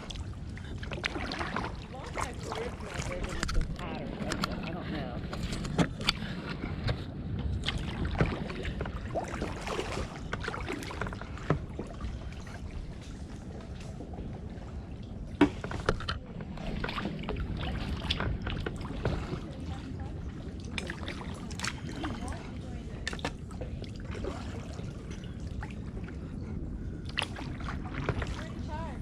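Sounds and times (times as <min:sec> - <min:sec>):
paddle dipping and dripping in water: 0:00.0 - 0:29.0.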